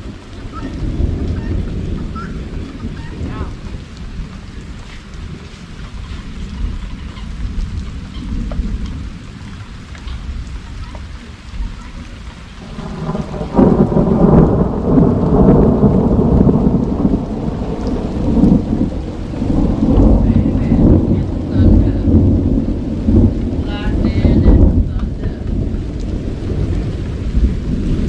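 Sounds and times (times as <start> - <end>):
rain falling: 0.0 - 28.0
thunder rumbling: 0.0 - 28.0.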